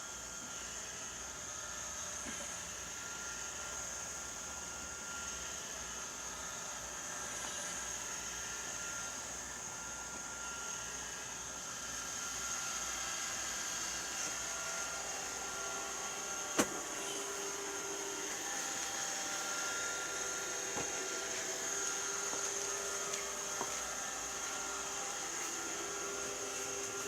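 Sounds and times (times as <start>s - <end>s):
robot vacuum cleaner whirring: 0.0s - 27.0s.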